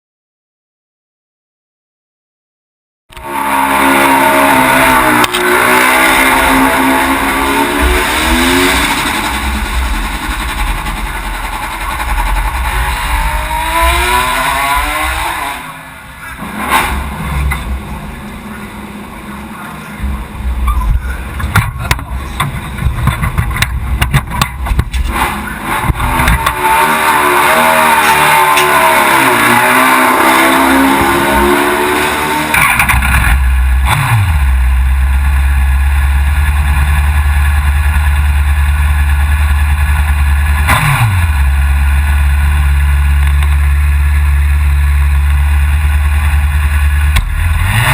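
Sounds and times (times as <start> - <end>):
motorcycle engine revving: 3.1 - 47.9.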